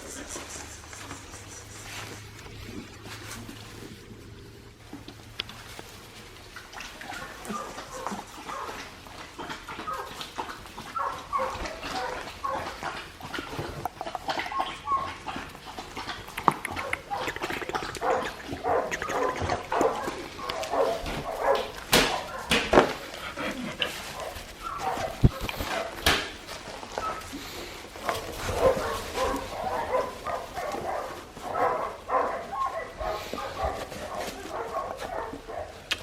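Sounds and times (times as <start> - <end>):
puppies yipping and barking: 0.0 - 4.0, 4.9 - 36.0.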